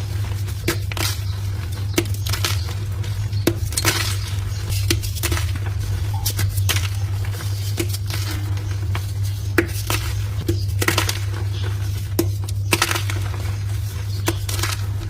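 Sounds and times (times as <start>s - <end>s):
chalk blocks crunching: 0.0s - 15.0s
steady low hum: 0.0s - 15.0s.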